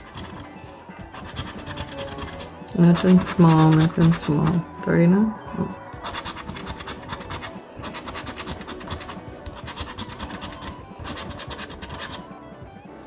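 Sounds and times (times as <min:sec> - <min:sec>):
scratching lottery ticket: 0:00.0 - 0:04.6, 0:06.0 - 0:12.2.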